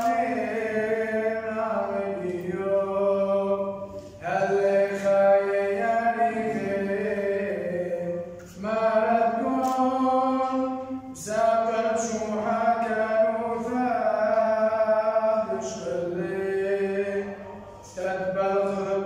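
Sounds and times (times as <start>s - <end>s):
man chanting a hymn: 0.0s - 19.0s.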